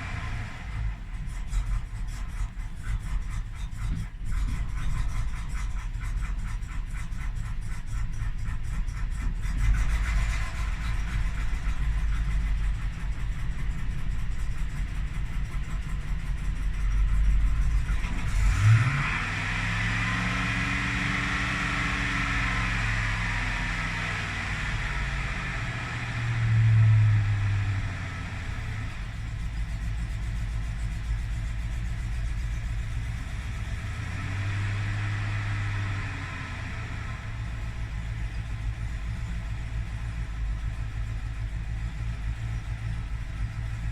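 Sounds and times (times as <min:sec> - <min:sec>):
car engine idling roughly: 0:00.0 - 0:43.9.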